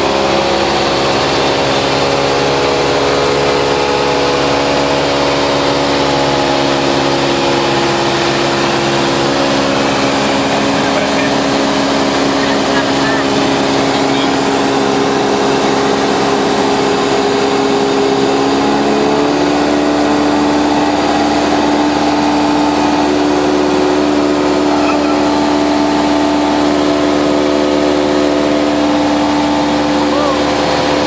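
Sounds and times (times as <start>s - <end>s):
aircraft propeller engine droning: 0.0s - 31.0s.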